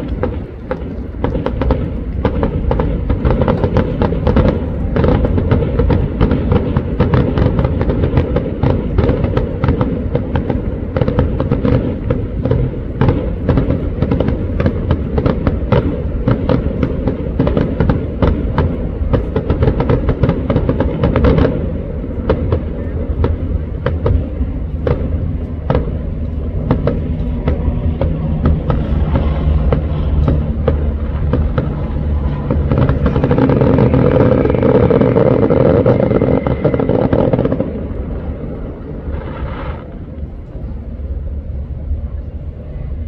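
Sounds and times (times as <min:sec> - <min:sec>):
fireworks bangs and crackles: 0:00.0 - 0:42.4
low rumble: 0:00.0 - 0:43.0.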